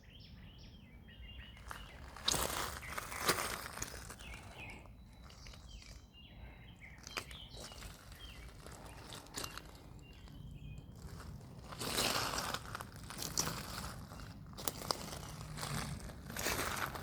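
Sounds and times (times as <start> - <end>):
birds chirping: 0.0 - 17.0
faint crunches: 1.6 - 17.0.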